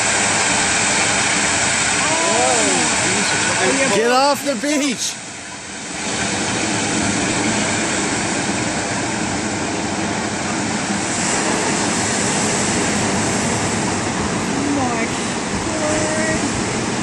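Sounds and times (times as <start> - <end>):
roar of churning surging water: 0.0 - 17.0.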